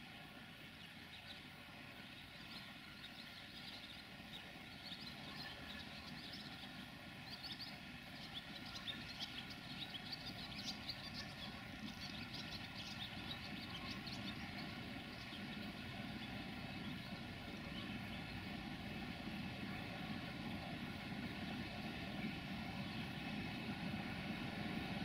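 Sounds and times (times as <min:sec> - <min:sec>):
diesel locomotive engine humming: 0:00.0 - 0:25.0.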